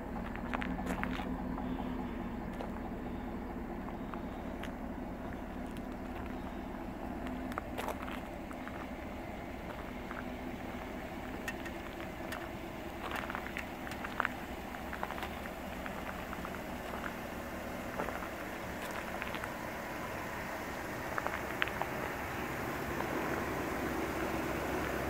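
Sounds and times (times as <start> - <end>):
footsteps crunching on gravel: 0.0 - 23.3
steady low hum: 0.0 - 25.0.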